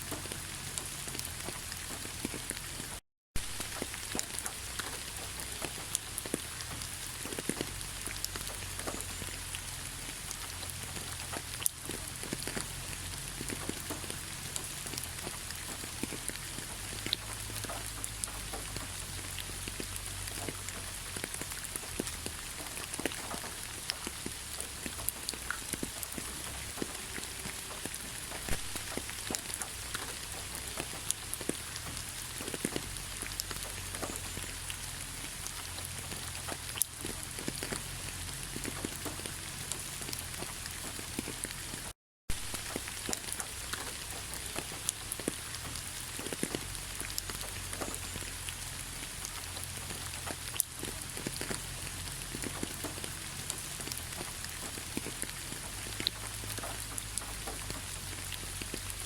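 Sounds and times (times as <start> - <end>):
raindrop taps: 0.0 - 59.0.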